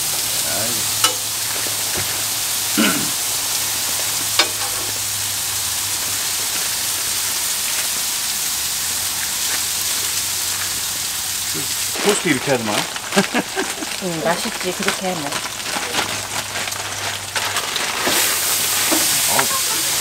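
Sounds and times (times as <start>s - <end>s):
bacon sizzling on griddle: 0.0s - 20.0s.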